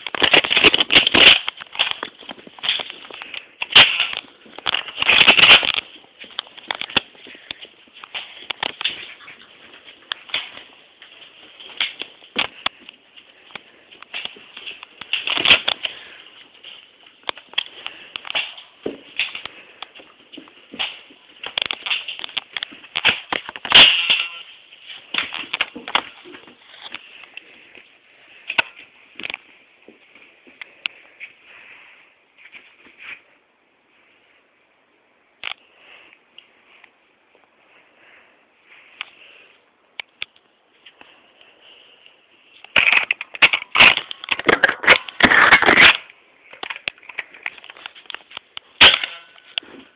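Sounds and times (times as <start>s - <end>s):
crackling and rustling handling noise: 0.0s - 49.9s.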